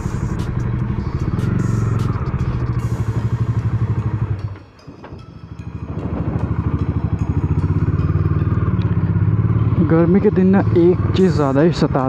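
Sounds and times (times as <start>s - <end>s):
motorcycle engine pulsing: 0.0s - 12.0s.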